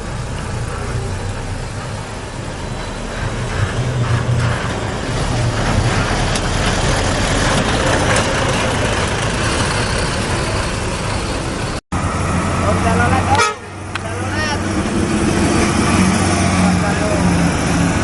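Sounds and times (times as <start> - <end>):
heavy vehicle engine running: 0.0 - 18.0
traffic and road noise: 0.0 - 18.0.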